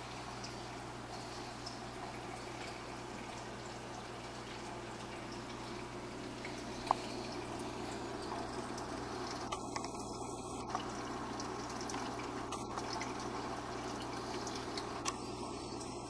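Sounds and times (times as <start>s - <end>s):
faint drip-like ticks: 0.0s - 16.0s
low steady hum: 0.0s - 16.0s
water trickling and splashing: 0.0s - 16.0s.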